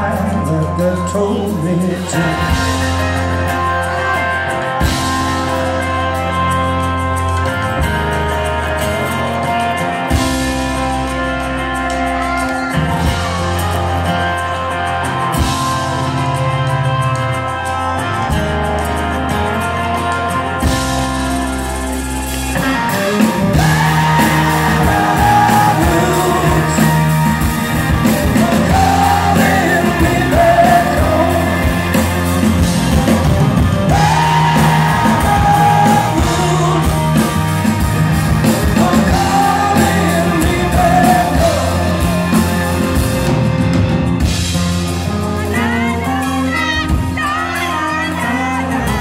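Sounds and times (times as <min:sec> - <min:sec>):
rock band playing live: 0:00.0 - 0:49.0.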